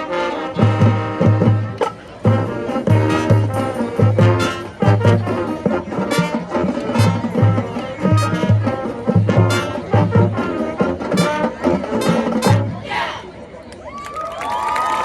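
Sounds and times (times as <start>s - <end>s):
brass section playing tune: 0.0s - 13.2s.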